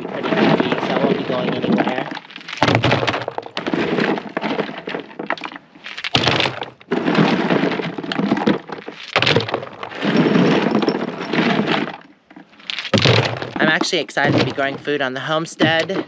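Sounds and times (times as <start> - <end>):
rocks clattering into plastic can: 0.2 - 16.0.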